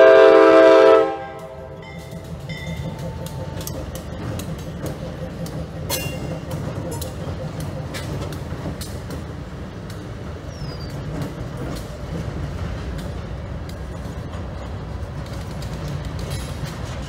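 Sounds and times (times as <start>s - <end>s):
freight train rumbling past: 0.0s - 17.0s
train wheel clicks: 1.2s - 17.0s.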